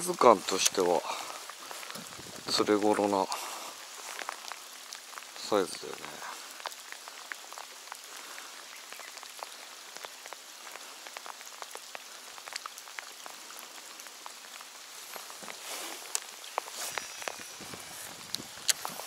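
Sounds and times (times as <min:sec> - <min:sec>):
rain falling on water: 0:00.0 - 0:19.0.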